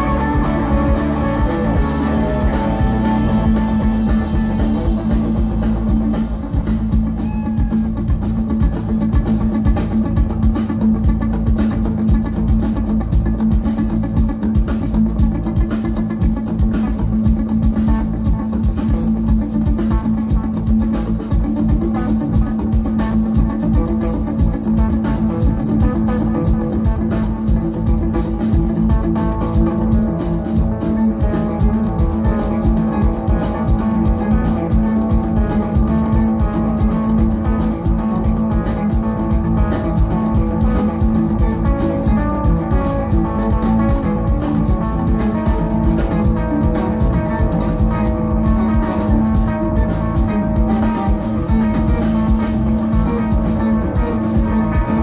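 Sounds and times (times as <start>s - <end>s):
bass guitar: 0.0s - 55.0s
drum kit beat: 0.0s - 55.0s
electric guitars: 0.0s - 55.0s.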